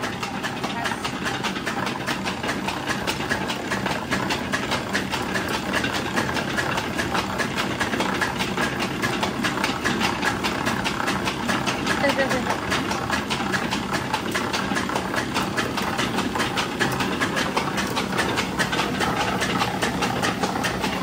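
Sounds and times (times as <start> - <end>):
oil press rhythmic clatter: 0.0 - 21.0.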